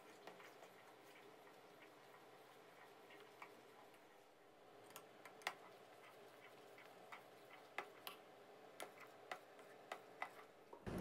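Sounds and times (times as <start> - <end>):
sauce simmering in a pot: 0.0 - 11.0.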